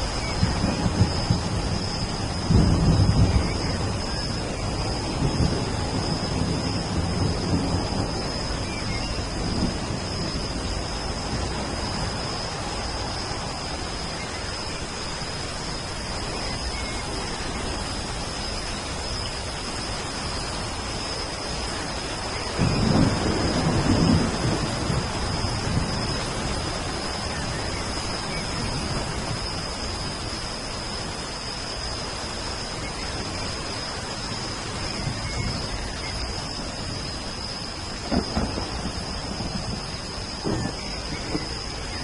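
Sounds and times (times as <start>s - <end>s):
thunder rolling: 0.0s - 18.3s, 21.6s - 30.4s, 34.1s - 42.0s
high-pitched whine: 0.0s - 42.0s
steady rain: 0.0s - 42.0s.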